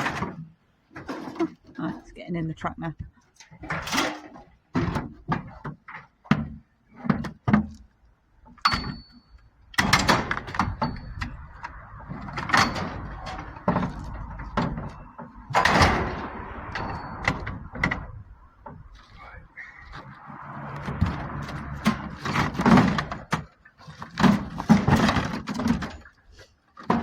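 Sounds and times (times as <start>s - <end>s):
scrap metal knocks and thuds: 0.0s - 2.3s, 3.4s - 27.0s
scrap metal scraping and clattering: 0.0s - 2.3s, 3.3s - 7.8s, 9.8s - 27.0s.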